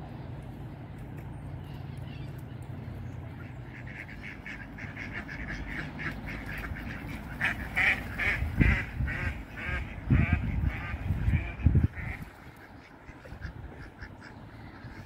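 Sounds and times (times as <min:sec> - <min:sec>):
ducks quacking: 0:01.6 - 0:15.0.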